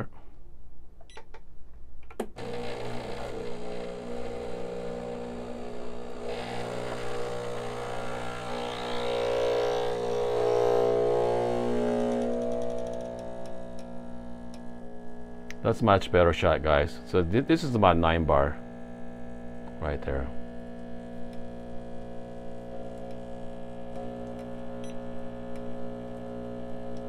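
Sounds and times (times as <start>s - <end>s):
espresso machine pump humming: 2.4s - 15.8s, 18.6s - 27.0s.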